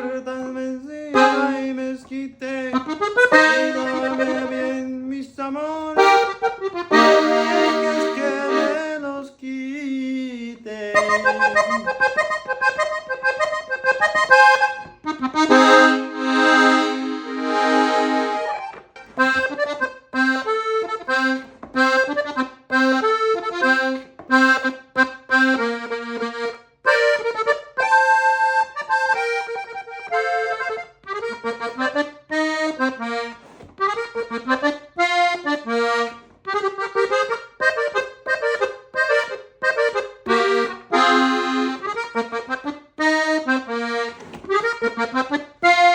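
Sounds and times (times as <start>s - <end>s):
accordion playing: 0.0s - 9.8s, 10.4s - 45.9s.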